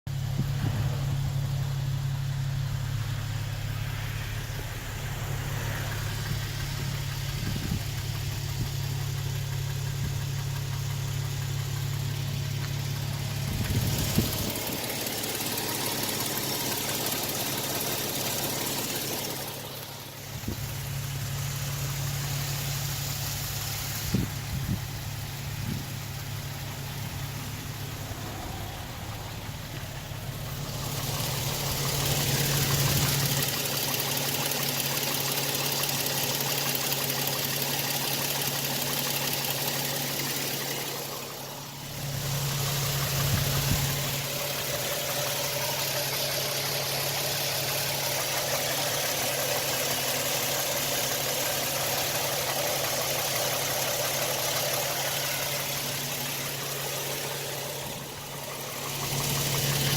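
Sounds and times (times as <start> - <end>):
engine idling with knocking: 0.0 - 59.9.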